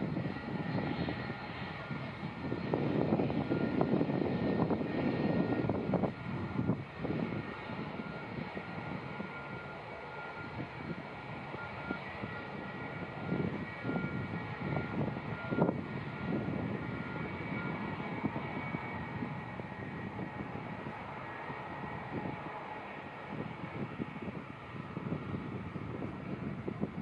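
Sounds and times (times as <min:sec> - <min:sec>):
distant jet engines whining: 0:00.0 - 0:27.0.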